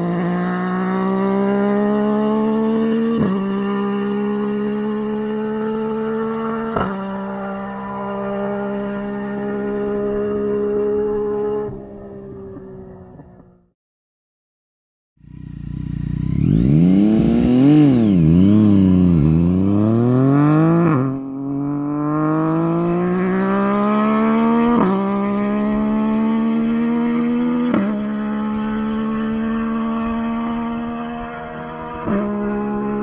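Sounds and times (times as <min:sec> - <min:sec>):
motorcycle engine revving: 0:00.0 - 0:13.7, 0:15.2 - 0:33.0.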